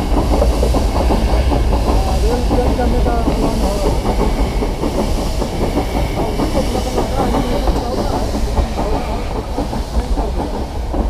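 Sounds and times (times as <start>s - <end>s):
train wheels clattering: 0.0s - 11.0s.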